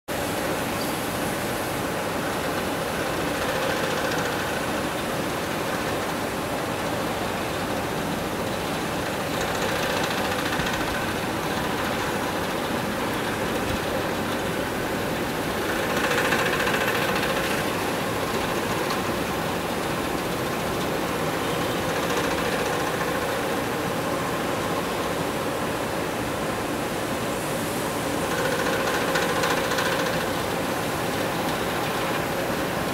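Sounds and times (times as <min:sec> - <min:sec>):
printing machine running: 0:00.2 - 0:27.3, 0:28.0 - 0:32.9.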